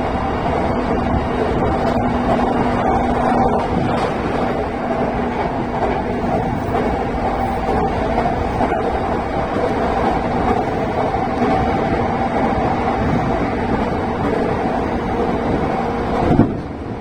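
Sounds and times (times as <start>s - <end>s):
constant train hum: 0.0s - 17.0s
train wheels rumbling on rail: 0.0s - 17.0s.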